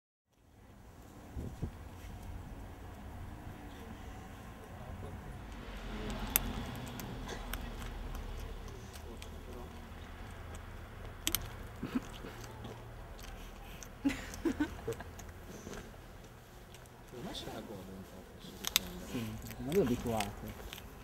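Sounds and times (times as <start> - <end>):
animal chewing and licking: 1.6 - 21.0.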